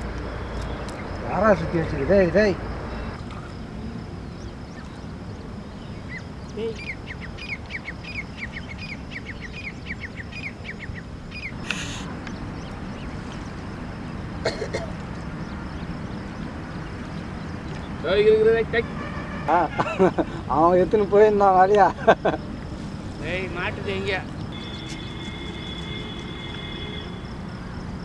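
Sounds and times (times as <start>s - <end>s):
bird chirping: 0.0s - 14.5s, 15.1s - 20.7s, 23.1s - 26.8s
outdoor background noise: 0.0s - 28.0s.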